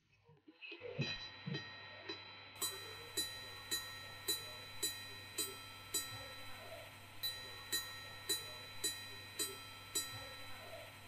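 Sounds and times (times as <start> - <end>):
steady ringing tone: 0.8 - 11.0
watch gong strikes: 1.0 - 11.0.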